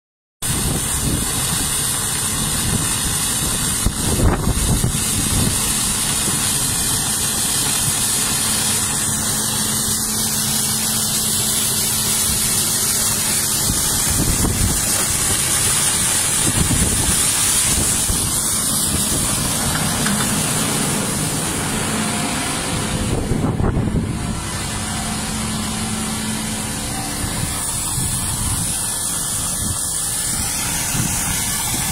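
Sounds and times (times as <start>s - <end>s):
tractor engine running: 0.4s - 31.9s.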